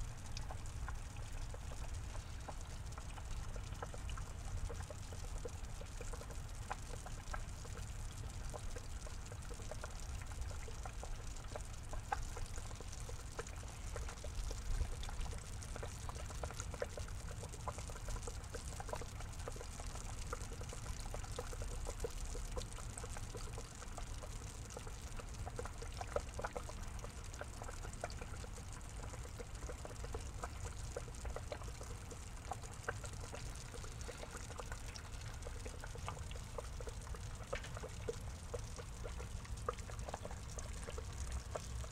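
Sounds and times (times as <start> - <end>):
water drips and splashes: 0.0 - 41.9
water pouring into pond: 0.1 - 41.9.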